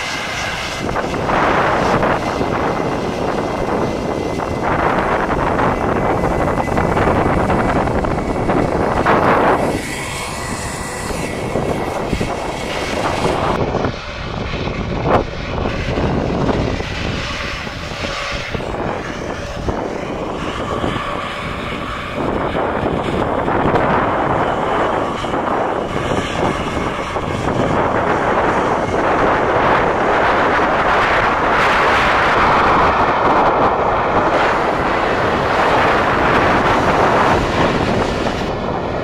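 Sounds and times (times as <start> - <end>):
airliner engines roaring: 0.0 - 39.0.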